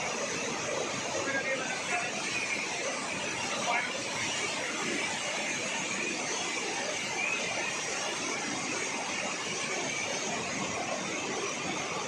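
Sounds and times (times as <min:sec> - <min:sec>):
heavy rain and rushing water: 0:00.0 - 0:12.0.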